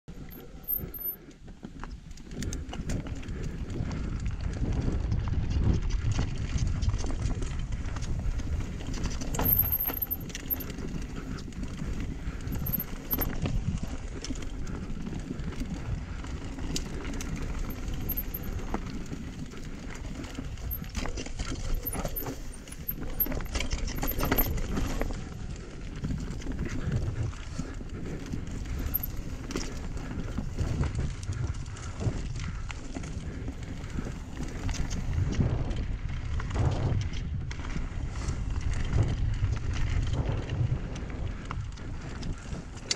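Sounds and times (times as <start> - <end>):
bicycle rattling over rocks: 0.1 - 42.9
wind rumble on microphone: 0.1 - 42.9.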